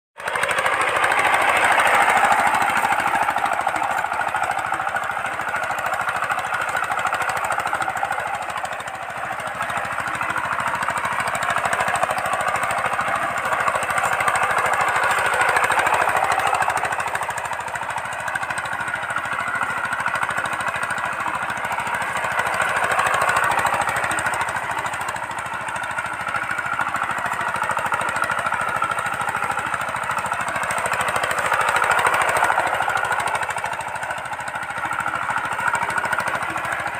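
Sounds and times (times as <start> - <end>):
diesel engine chugging: 0.2 - 36.9.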